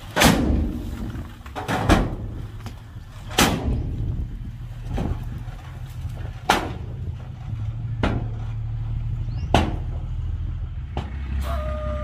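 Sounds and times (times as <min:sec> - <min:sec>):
heavy machinery engine drone: 0:00.0 - 0:12.0.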